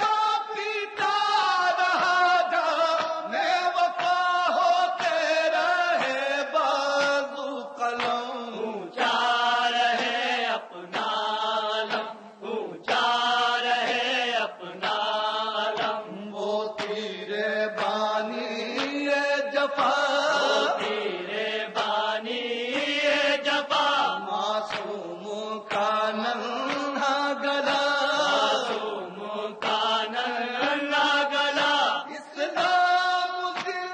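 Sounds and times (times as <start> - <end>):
man chanting a lament: 0.0 - 33.9.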